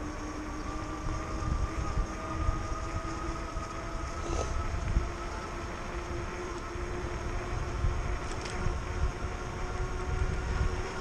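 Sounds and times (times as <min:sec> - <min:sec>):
electric motor whine: 0:00.0 - 0:11.0
wind buffeting microphone: 0:00.0 - 0:11.0.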